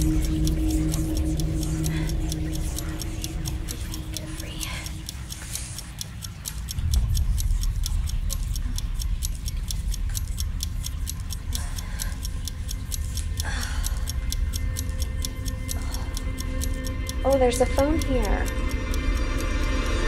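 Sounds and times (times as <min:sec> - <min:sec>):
clock-like ticking: 0:00.0 - 0:20.0
low rumbling drone: 0:00.0 - 0:20.0.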